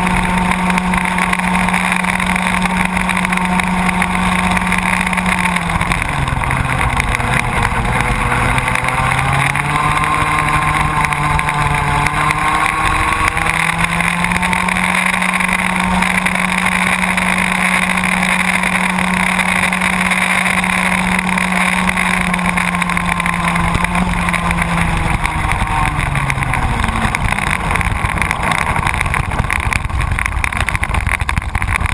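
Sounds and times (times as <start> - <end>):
kart two-stroke engine revving: 0.0 - 31.9.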